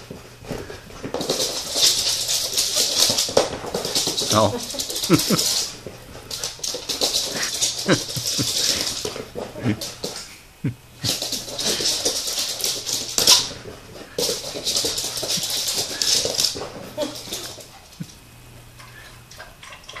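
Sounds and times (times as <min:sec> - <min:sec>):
dog claws skittering on wood floor: 0:00.0 - 0:10.4, 0:11.0 - 0:18.2.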